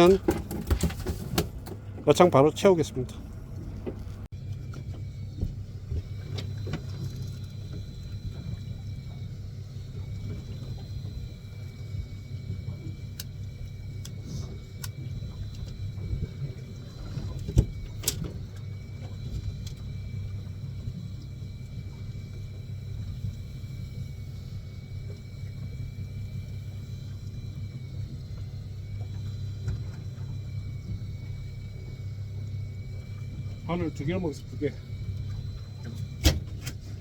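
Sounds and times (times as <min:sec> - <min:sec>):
boat engine low hum: 0:00.0 - 0:37.0
faint high whine: 0:04.4 - 0:37.0.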